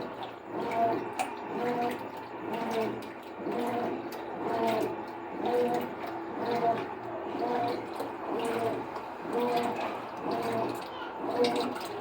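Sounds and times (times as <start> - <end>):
washing machine motor whirring: 0.0 - 12.0
water sloshing in tub: 0.0 - 12.0.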